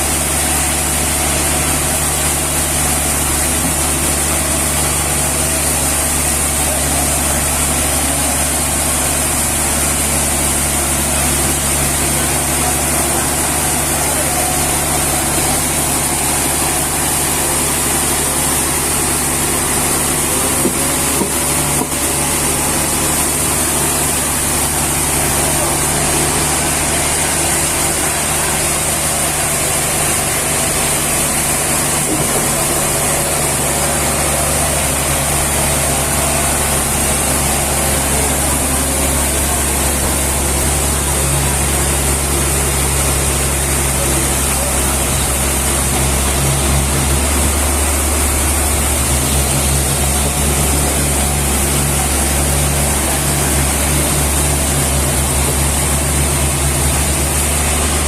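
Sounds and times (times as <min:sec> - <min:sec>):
heavy engine humming: 0:00.0 - 0:58.0.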